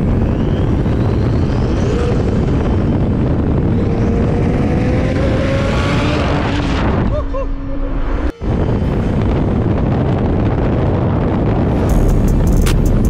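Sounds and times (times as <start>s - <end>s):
turbocharged car engine accelerating: 0.0s - 8.3s, 9.2s - 13.0s
wind and road noise: 0.0s - 13.0s.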